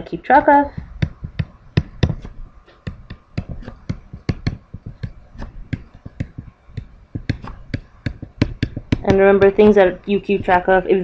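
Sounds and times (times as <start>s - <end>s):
stylus tapping on a tablet: 0.3s - 11.0s.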